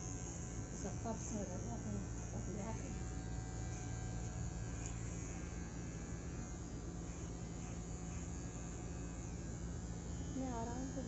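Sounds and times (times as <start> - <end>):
electric hair trimmer buzzing: 0.0 - 11.0.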